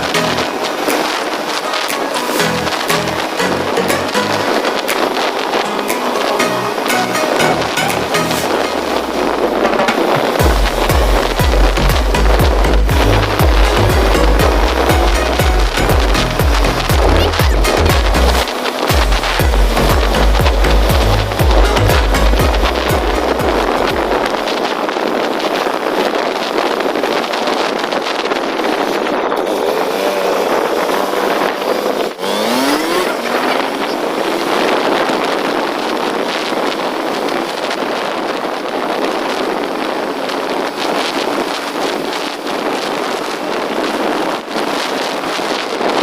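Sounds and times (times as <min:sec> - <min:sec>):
motorcycle engine revving: 0:00.0 - 0:24.8, 0:27.4 - 0:45.1
wind rushing over microphone: 0:00.0 - 0:46.0.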